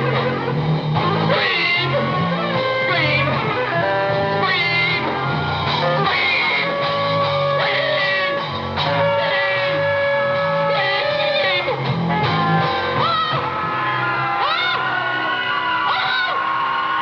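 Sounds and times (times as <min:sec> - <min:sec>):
drums: 0:00.0 - 0:17.0
electric guitar: 0:00.0 - 0:17.0
person singing: 0:01.0 - 0:15.0.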